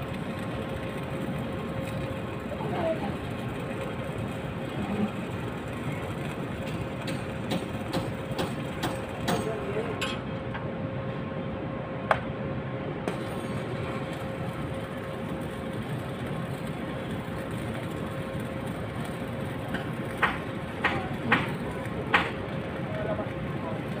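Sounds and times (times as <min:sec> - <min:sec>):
machinery humming: 0:00.0 - 0:24.0.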